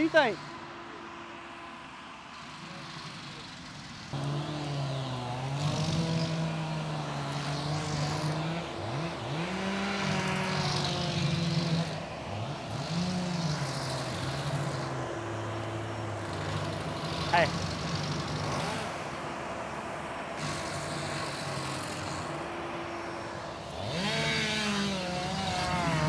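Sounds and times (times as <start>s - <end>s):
engine revving: 0.0s - 1.3s, 2.2s - 26.0s.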